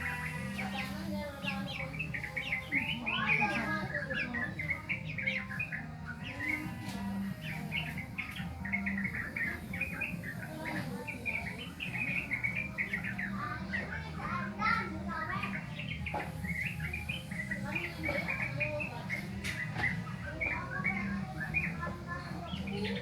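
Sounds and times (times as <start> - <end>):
young bird chirping and warbling: 0.0 - 23.0.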